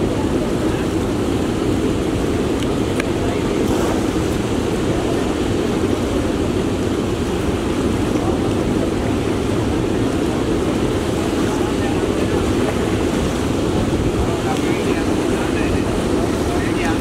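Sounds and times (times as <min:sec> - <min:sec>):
water at the shore: 0:00.0 - 0:17.0.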